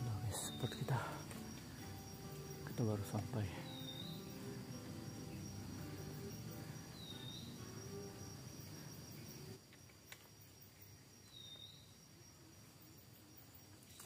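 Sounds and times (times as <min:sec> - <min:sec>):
insects whining: 0:00.0 - 0:14.0.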